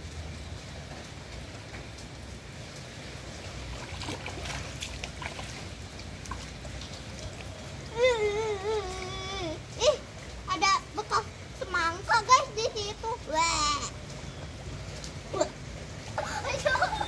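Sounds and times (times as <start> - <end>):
faint drips and ticks: 0.0 - 17.0
floodwater flowing: 0.0 - 17.0
light rain falling: 0.0 - 17.0.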